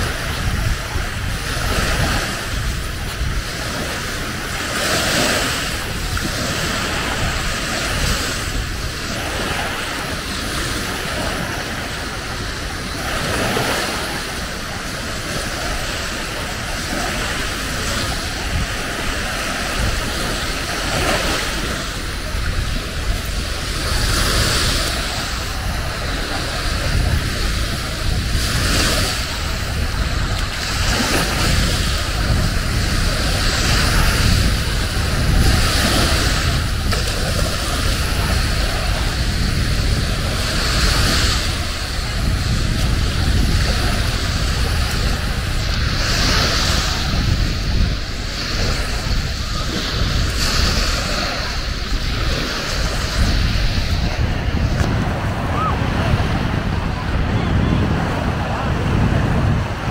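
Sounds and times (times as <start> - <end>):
surf washing onto beach: 0.0 - 59.9.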